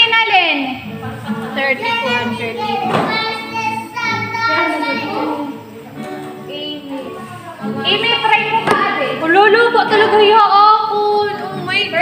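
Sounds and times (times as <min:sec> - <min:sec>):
women and children talking: 0:00.0 - 0:12.0.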